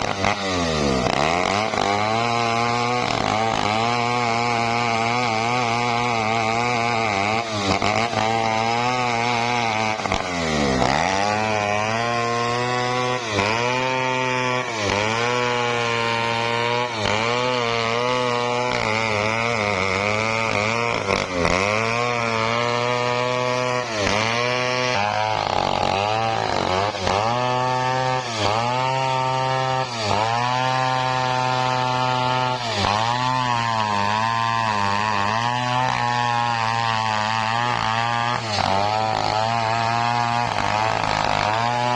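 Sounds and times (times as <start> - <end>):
chainsaw cutting wood at high revs: 0.0 - 41.9.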